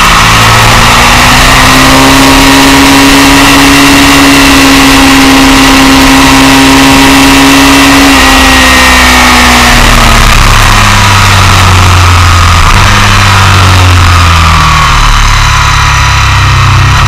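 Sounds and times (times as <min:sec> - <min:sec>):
motorcycle engine revving high: 0:00.0 - 0:17.0.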